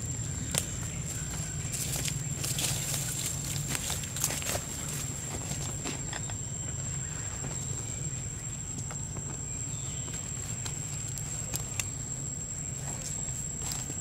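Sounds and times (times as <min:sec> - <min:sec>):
rustles of dry leaves: 0:00.0 - 0:14.0.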